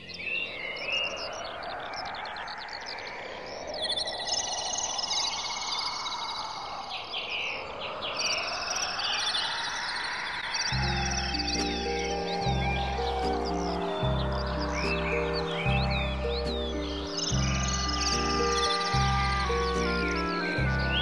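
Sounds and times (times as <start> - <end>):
birds chirping and warbling: 0.0 - 21.0
high even bird trills: 0.0 - 21.0.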